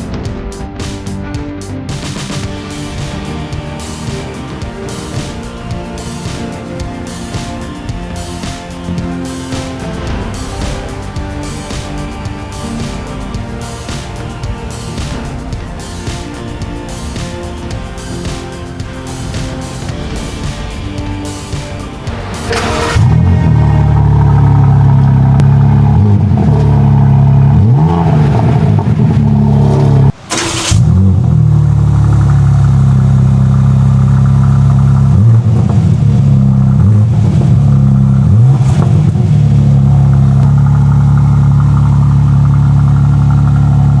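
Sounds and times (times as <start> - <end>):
car exhaust idling and revving: 1.6 - 44.0.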